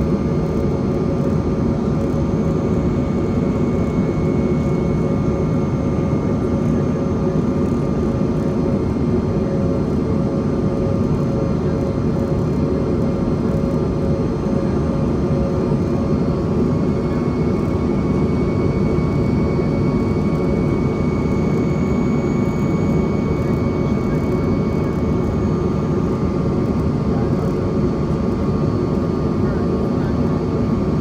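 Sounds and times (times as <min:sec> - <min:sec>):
airplane cabin engine drone: 0:00.0 - 0:31.0
faint steady whine tones: 0:00.0 - 0:31.0.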